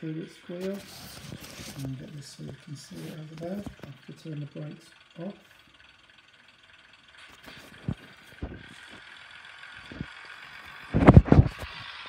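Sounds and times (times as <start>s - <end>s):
model train diesel engine sound: 0.0s - 12.0s.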